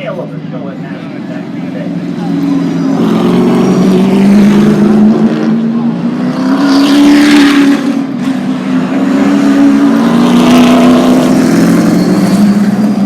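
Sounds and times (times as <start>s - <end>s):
race truck engines: 0.0s - 13.0s.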